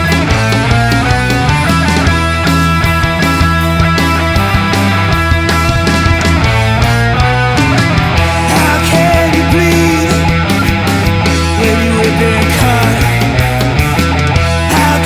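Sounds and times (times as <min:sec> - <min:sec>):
blues-rock band music: 0:00.0 - 0:15.0.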